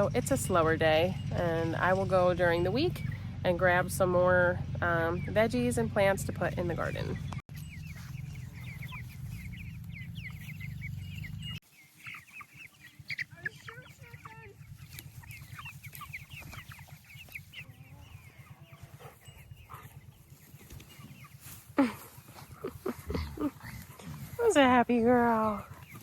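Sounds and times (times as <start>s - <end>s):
chicks peeping and clucking: 0.0s - 26.0s.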